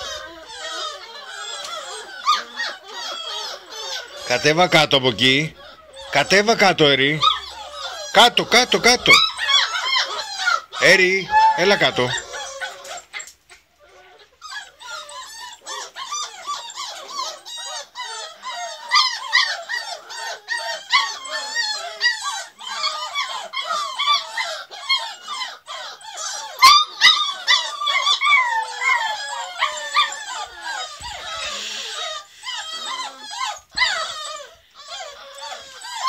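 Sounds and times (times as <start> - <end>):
puppies whining and squealing: 0.0 - 36.0.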